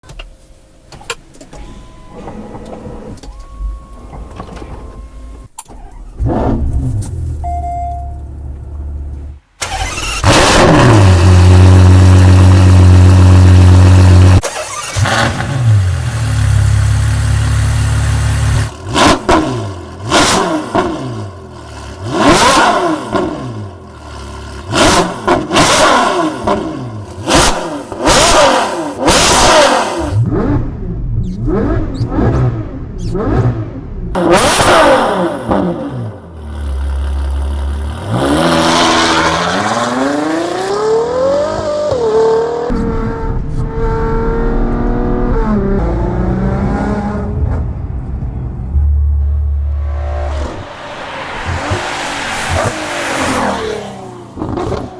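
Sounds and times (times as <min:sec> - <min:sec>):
car engine starting: 0:00.0 - 0:54.9
engine revving: 0:09.6 - 0:47.8, 0:48.6 - 0:54.9.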